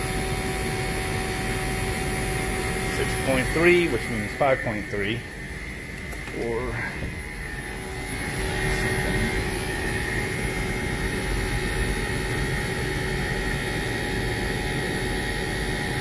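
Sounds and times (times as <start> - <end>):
air conditioner whirring: 0.0 - 16.0
high-pitched compressor whine: 0.0 - 16.0.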